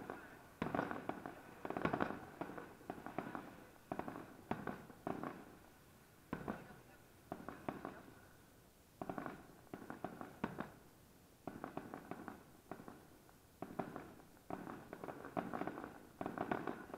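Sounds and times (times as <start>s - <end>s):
fireworks bursting: 0.0s - 16.9s.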